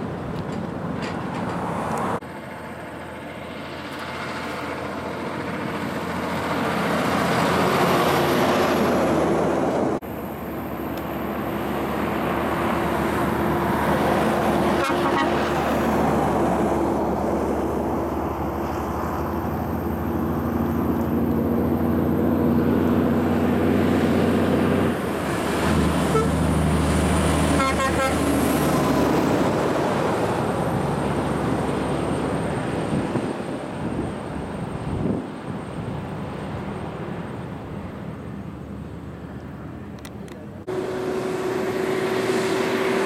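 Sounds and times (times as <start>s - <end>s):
heavy diesel truck engines: 0.0s - 43.0s.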